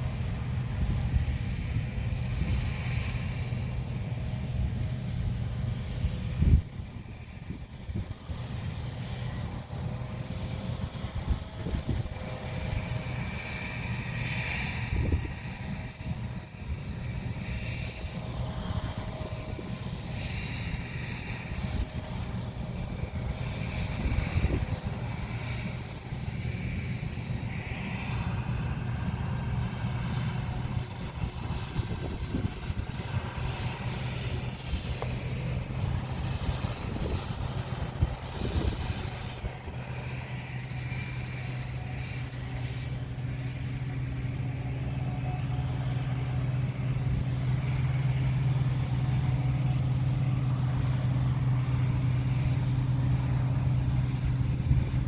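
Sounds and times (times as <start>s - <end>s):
deep diesel engine drone: 0.0s - 55.0s
machinery whirring: 0.0s - 55.0s.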